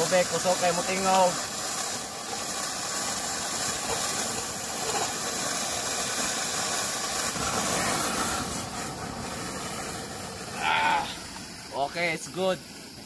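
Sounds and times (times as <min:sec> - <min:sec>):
water pouring into a bottle: 0:00.0 - 0:12.0.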